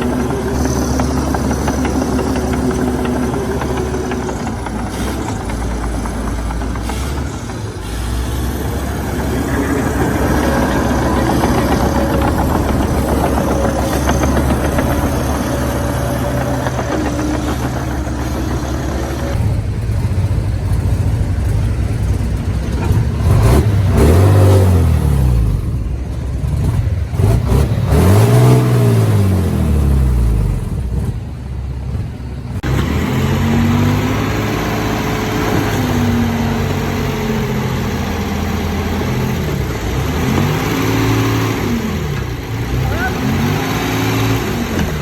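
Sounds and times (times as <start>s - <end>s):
diesel engine revving under load: 0.0s - 45.0s.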